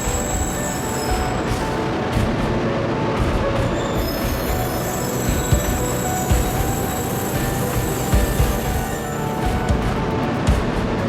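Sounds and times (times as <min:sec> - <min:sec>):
high whine: 0:00.0 - 0:11.0
train wheel rumble: 0:00.0 - 0:11.0.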